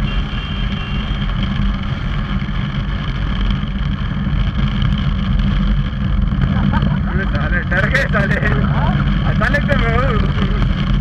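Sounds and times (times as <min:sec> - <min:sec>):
motorcycle engine: 0:00.0 - 0:11.0
wind rumble on microphone: 0:00.0 - 0:11.0.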